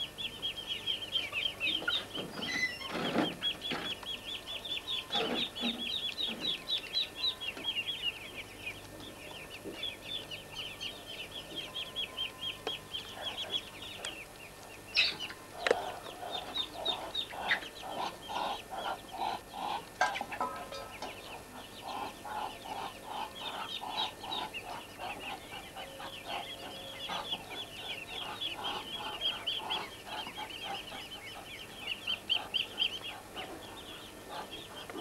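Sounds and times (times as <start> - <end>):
ducklings peeping: 0.0 - 35.0
low clucking notes: 3.5 - 35.0.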